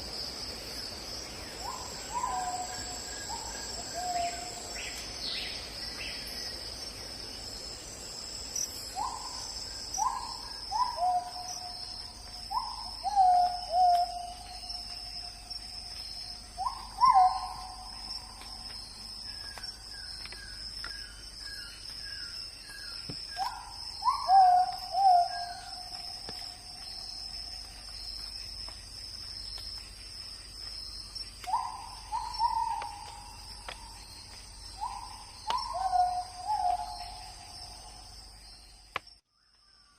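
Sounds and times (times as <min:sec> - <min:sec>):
high-pitched insect drone: 0:01.4 - 0:39.0.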